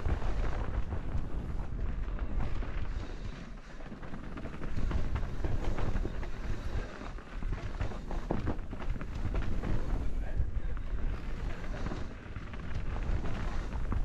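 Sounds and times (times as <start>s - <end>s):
bike rattling and clicking: 0.0s - 14.0s
bike tyres rolling over dirt: 0.0s - 14.0s
wind rumbling on microphone: 0.0s - 14.0s.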